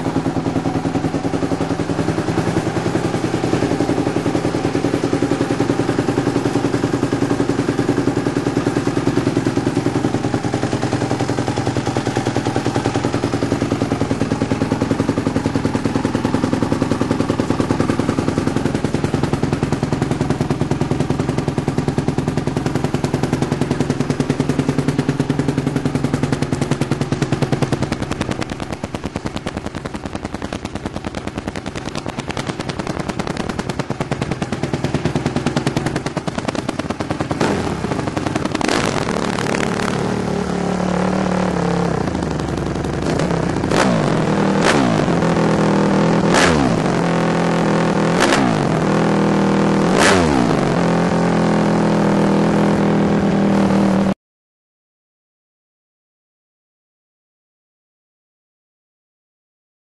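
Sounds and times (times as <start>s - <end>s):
motorcycle engine idling and revving: 0.0s - 54.2s.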